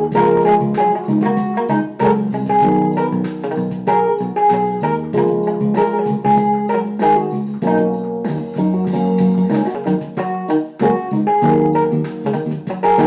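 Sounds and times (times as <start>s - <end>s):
organ-like keyboard music: 0.0s - 13.0s
piano: 0.0s - 13.0s.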